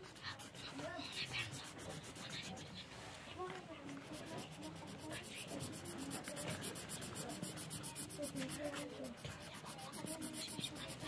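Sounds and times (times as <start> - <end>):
felt-tip pen scribbling on paper: 0.0 - 2.9, 3.8 - 11.0.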